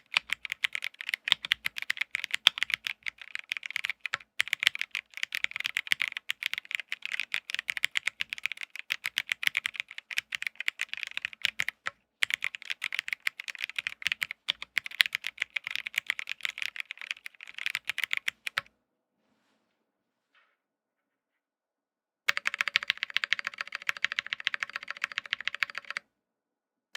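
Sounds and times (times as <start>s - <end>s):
mechanical keyboard typing: 0.0s - 18.7s, 22.3s - 26.0s.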